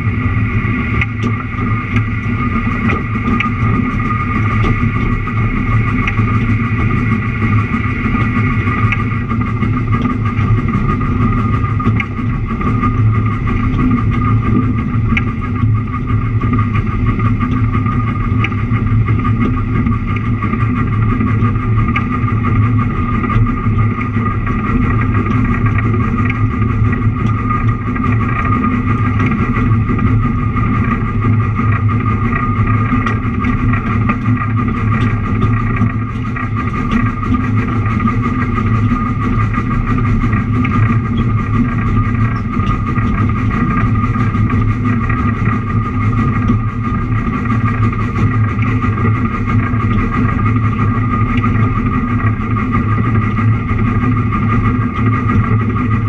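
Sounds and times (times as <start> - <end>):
train engine droning: 0.0 - 56.0
train running on track: 0.0 - 56.0.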